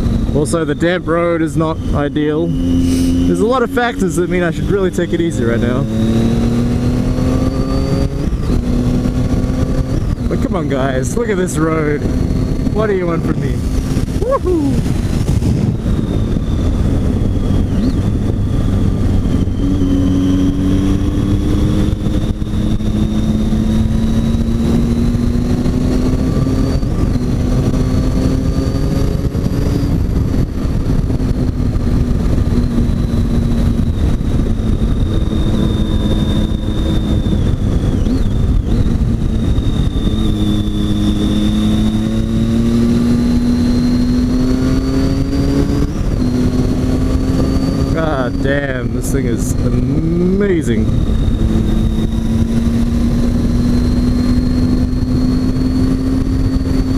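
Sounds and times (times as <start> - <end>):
motorcycle engine accelerating: 0.0 - 56.9
wind noise rushing: 0.0 - 56.9.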